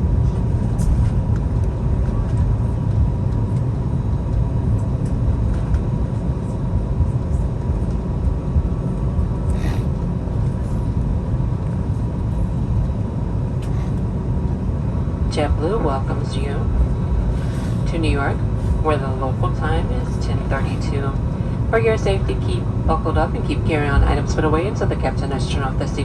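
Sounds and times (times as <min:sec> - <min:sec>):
faint steady whine: 0:00.0 - 0:26.0
low aircraft cabin rumble: 0:00.0 - 0:26.0.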